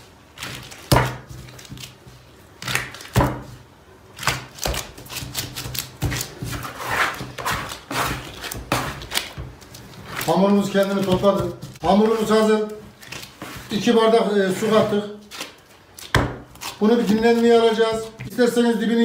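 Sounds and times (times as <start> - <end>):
dough kneaded on wooden table: 0.0 - 19.0.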